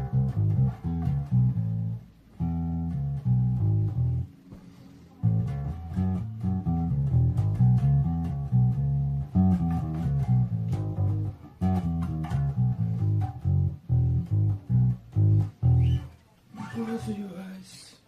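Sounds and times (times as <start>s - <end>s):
electric bass plucked notes: 0.0s - 4.5s, 5.2s - 16.2s.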